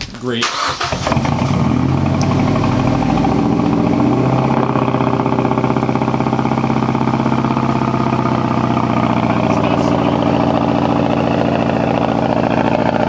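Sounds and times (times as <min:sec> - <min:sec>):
car exhaust idling with misfire: 0:00.0 - 0:13.0.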